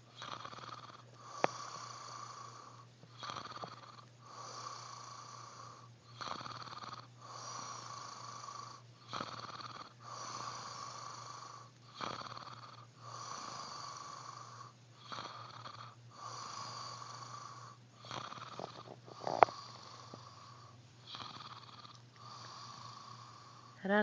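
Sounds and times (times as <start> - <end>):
man snoring: 0.0 - 24.0.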